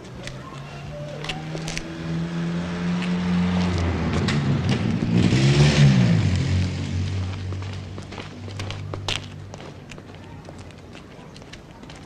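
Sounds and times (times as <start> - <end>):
motor vehicle passing: 0.0 - 9.9.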